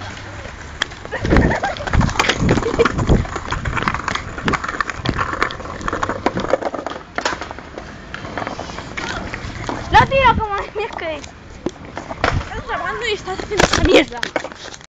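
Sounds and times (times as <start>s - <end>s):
skateboard rolling over paving tiles: 0.0s - 14.8s.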